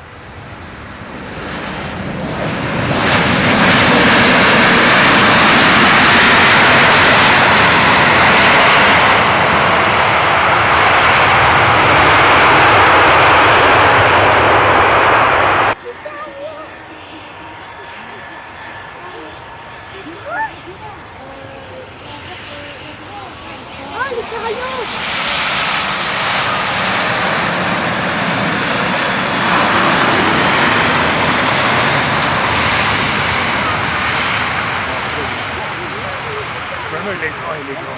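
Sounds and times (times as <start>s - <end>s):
aircraft engines running: 0.0s - 37.9s.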